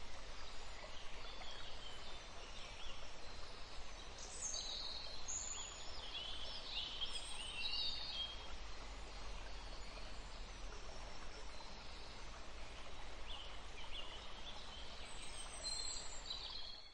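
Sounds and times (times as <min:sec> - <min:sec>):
steady background hiss: 0:00.0 - 0:16.8.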